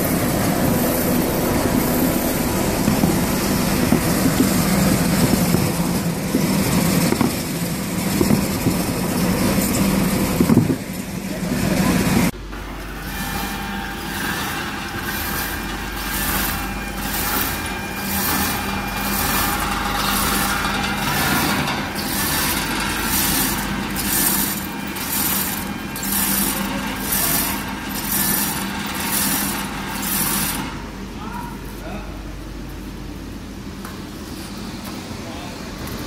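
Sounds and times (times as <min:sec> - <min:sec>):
machine low hum: 0:00.0 - 0:36.0.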